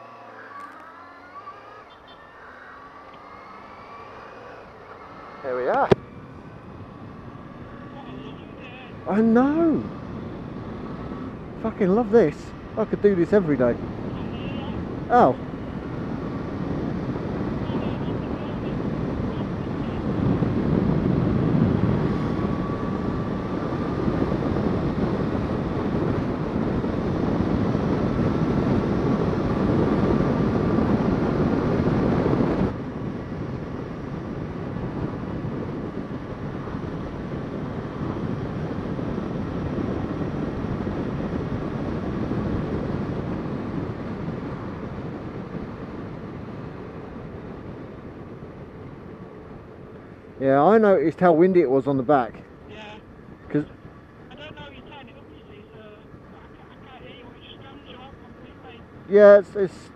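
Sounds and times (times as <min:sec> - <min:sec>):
motorcycle engine: 0:00.0 - 0:50.4
road noise: 0:00.0 - 0:59.9
wind rush: 0:02.2 - 0:59.9.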